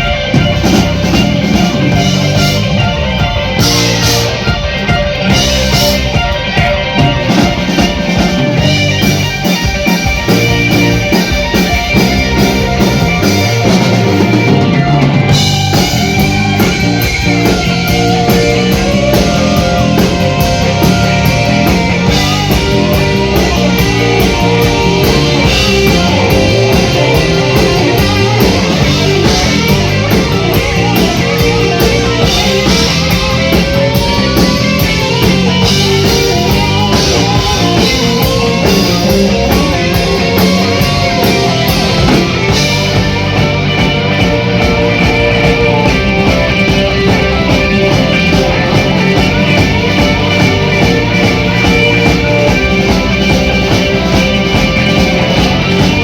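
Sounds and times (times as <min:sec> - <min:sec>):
bass: 0:00.0 - 0:56.0
drum kit: 0:00.0 - 0:56.0
electric guitars: 0:00.0 - 0:56.0.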